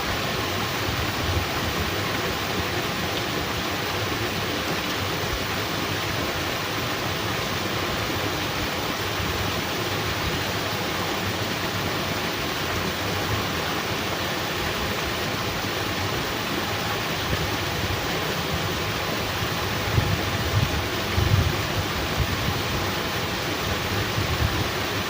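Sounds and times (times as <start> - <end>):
flowing water: 0.0 - 25.0
heavy rain: 0.0 - 25.0.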